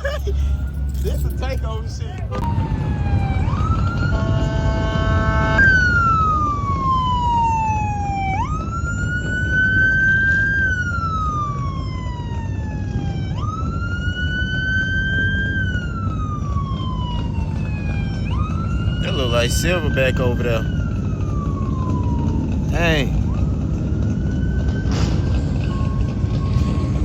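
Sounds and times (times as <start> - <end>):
police siren wailing: 0.0 - 27.0.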